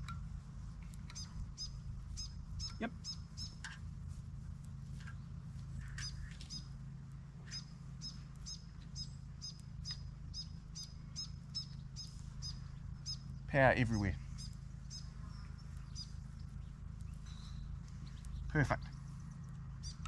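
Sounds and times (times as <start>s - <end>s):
steady low hum: 0.0s - 20.0s
small bird chirping: 0.8s - 3.8s, 4.9s - 6.8s, 7.4s - 20.0s.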